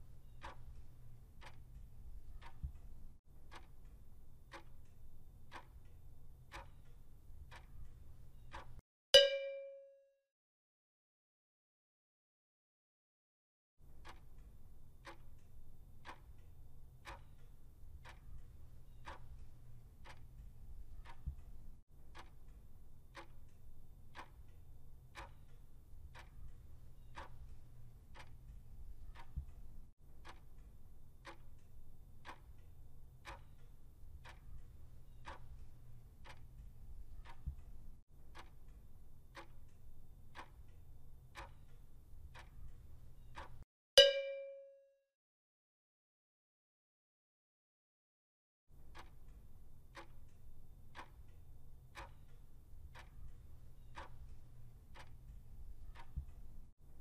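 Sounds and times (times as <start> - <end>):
clock ticking: 0.2 - 9.6, 14.0 - 44.7, 48.8 - 56.7.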